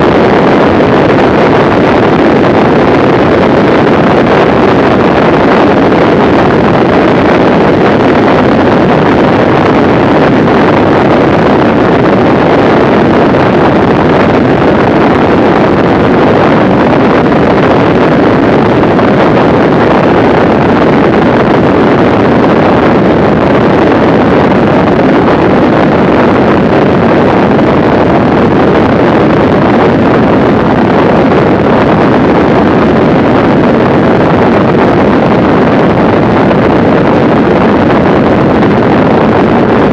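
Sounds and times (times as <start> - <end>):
light aircraft in flight: 0.0 - 39.9
wind noise on microphone: 0.0 - 39.9.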